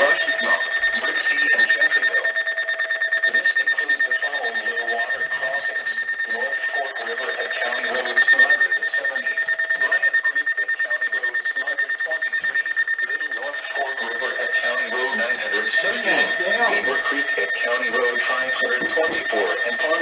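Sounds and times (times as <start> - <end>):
rapid high-pitched alarm beeping: 0.0 - 20.0.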